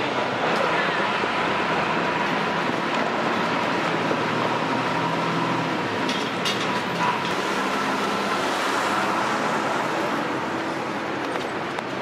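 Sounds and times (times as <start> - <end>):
bus and car engines passing: 0.0 - 12.0.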